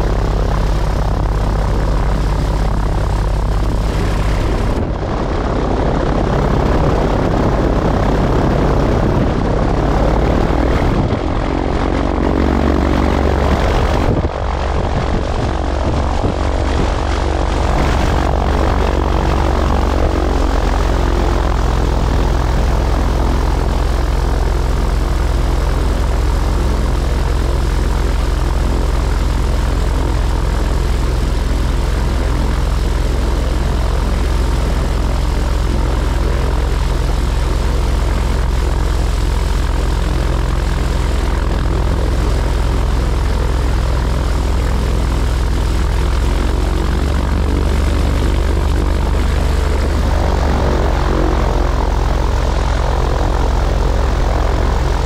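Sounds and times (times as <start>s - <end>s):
plane engine and propeller running: 0.0s - 55.0s.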